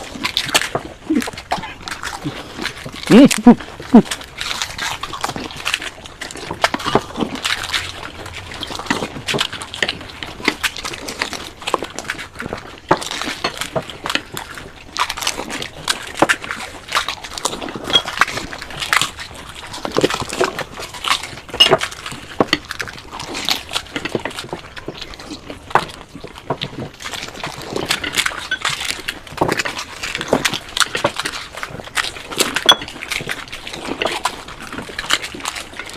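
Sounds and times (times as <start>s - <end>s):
chewing: 0.0s - 35.9s
slurping: 0.0s - 35.9s.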